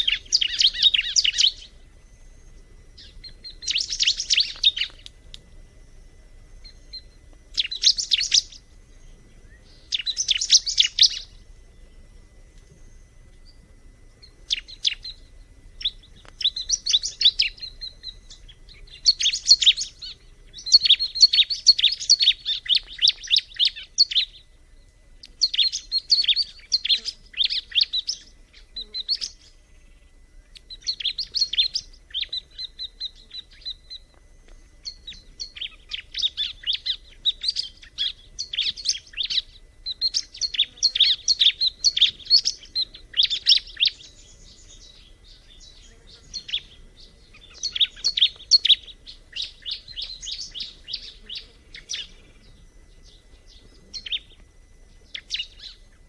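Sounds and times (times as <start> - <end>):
bird singing rapid high chirps: 0.0 - 1.8, 3.0 - 5.0, 6.6 - 11.4, 14.2 - 24.5, 25.4 - 29.6, 30.7 - 34.0, 34.8 - 54.4, 55.0 - 56.0.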